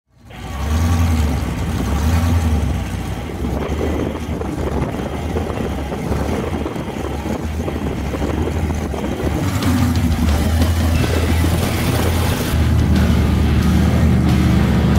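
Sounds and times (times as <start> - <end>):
truck engines idling: 0.1 - 14.9.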